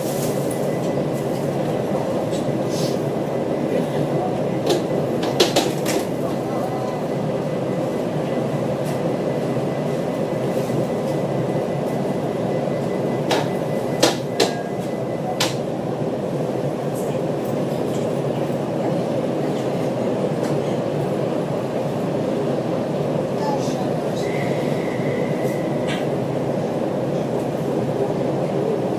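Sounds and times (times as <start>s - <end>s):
train rumble: 0.0s - 28.9s.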